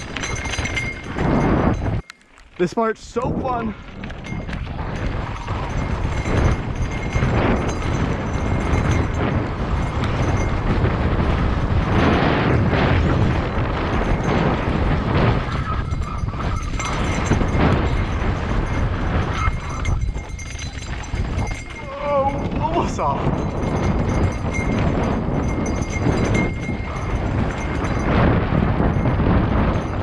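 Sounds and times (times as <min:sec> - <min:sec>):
bike rattling and knocking: 0:00.0 - 0:30.0
bike tyres rumbling: 0:00.0 - 0:30.0
wind rushing over microphone: 0:00.0 - 0:30.0.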